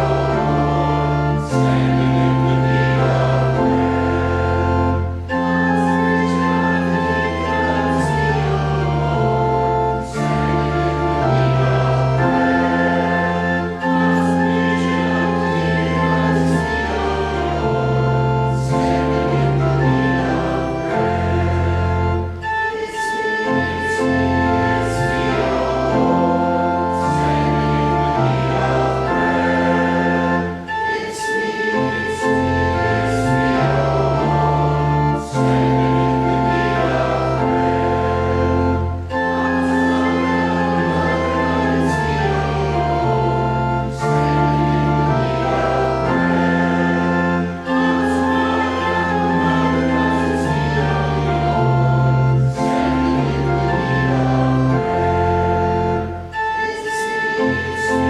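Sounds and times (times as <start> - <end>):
congregation singing a hymn: 0.0 - 58.0
organ playing: 0.0 - 58.0.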